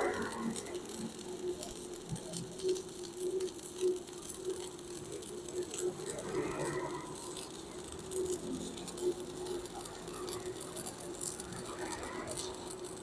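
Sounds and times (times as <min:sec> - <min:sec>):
welder hum: 0:00.0 - 0:13.0
welding arc crackling: 0:00.0 - 0:13.0.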